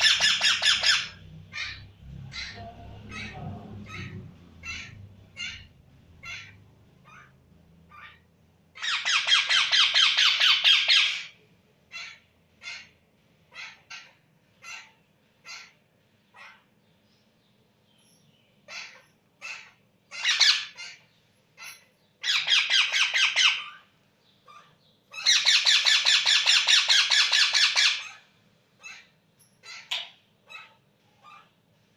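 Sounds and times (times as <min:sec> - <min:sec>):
parrot chick calling and chattering: 0:00.0 - 0:17.0, 0:18.1 - 0:31.6.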